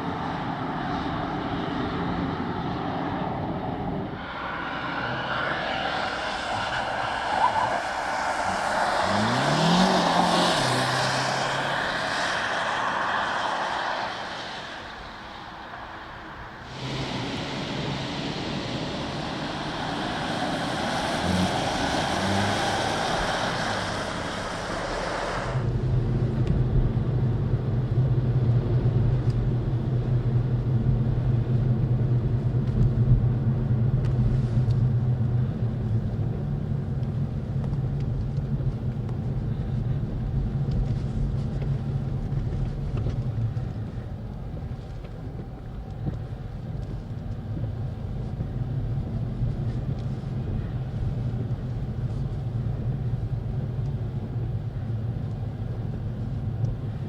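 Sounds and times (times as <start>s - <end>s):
car driving at speed: 0.0s - 57.0s
low engine drone: 0.0s - 57.0s.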